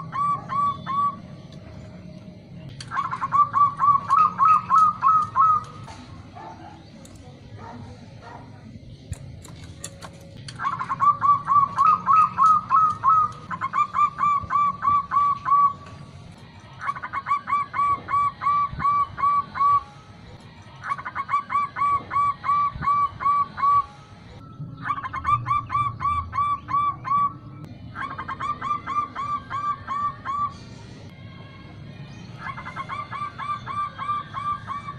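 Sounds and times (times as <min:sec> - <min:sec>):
dove cooing: 0:00.0 - 0:02.2, 0:02.8 - 0:07.0, 0:09.5 - 0:20.1, 0:20.7 - 0:24.1, 0:24.7 - 0:30.8, 0:32.4 - 0:34.9.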